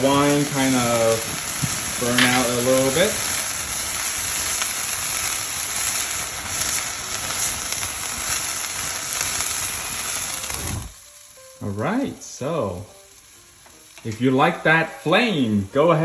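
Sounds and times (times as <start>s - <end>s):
wine sizzling in a hot skillet: 0.0s - 16.0s.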